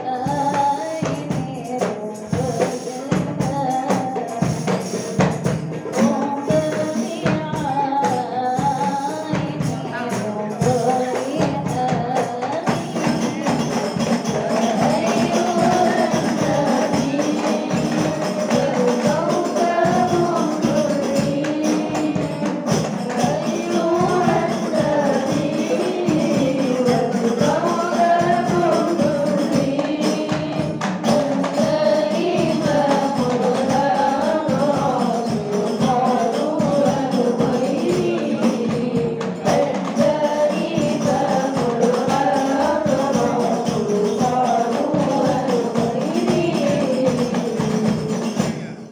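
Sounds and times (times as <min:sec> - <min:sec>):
frame drums beating: 0:00.0 - 0:48.9
voices singing: 0:00.0 - 0:48.9.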